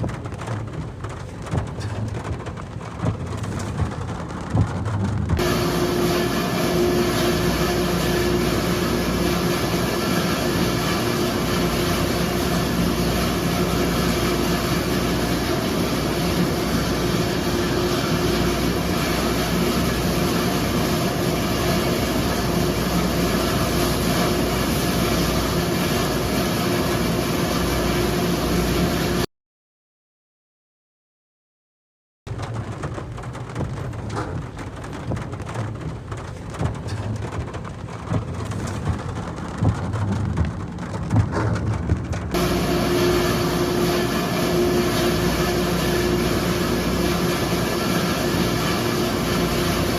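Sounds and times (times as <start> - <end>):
vehicle engine rumble: 0.0 - 25.5, 32.3 - 49.9.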